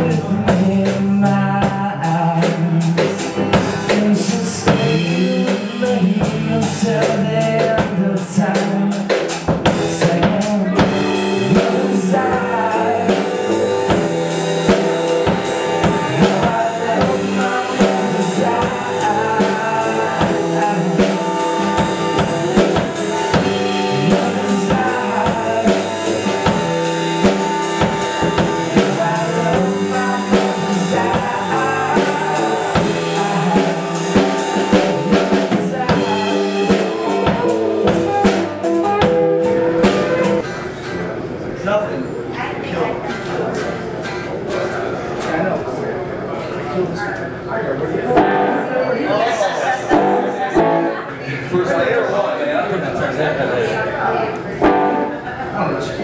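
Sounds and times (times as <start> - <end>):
drum kit beat: 0.0 - 41.3, 47.0 - 52.2, 53.9 - 56.0
bass guitar: 0.0 - 56.0
electric and acoustic guitars: 0.0 - 56.0.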